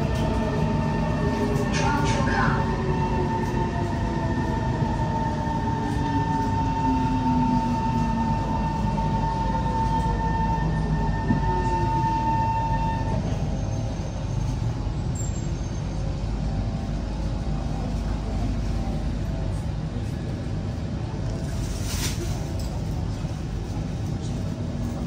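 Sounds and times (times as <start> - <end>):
train traction motor whine: 0.0 - 21.6.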